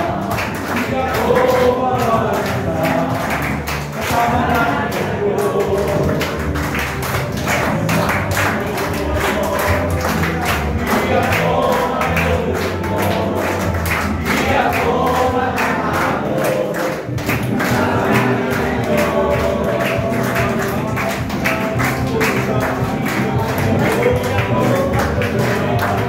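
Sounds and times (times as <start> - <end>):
men singing worship song: 0.0 - 26.0
music from loudspeaker: 0.0 - 26.0
people clapping: 0.0 - 26.0.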